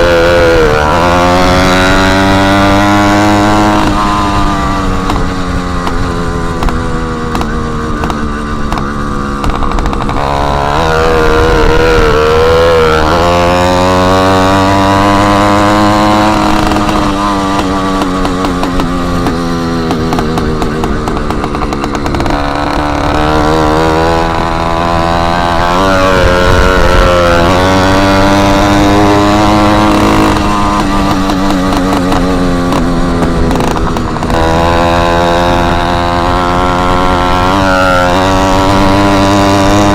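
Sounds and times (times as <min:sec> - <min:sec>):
motorized bicycle engine revving: 0:00.0 - 0:39.9.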